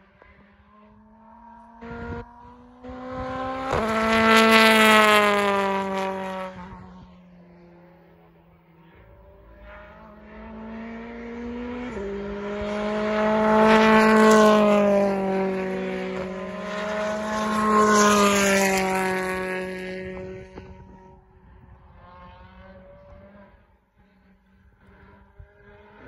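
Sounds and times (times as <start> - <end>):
previous car engine: 0.0 - 26.0
racing car engine passing: 0.0 - 26.0.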